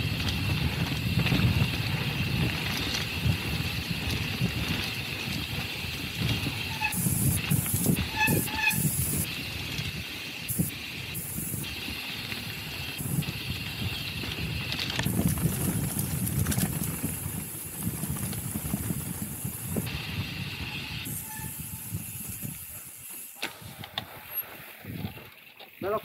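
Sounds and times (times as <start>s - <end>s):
hiss and rattle: 0.0s - 25.0s
bike tyres rumbling on dirt: 0.0s - 26.0s
wind: 0.0s - 26.0s.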